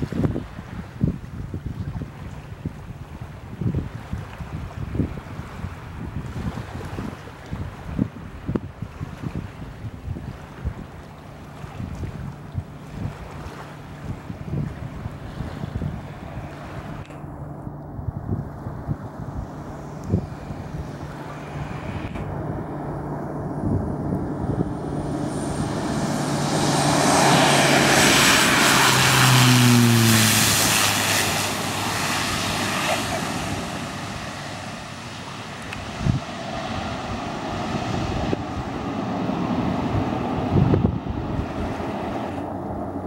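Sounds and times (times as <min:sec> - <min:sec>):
aircraft passing overhead with hiss: 0:00.0 - 0:43.0
turboprop plane landing: 0:00.0 - 0:43.0.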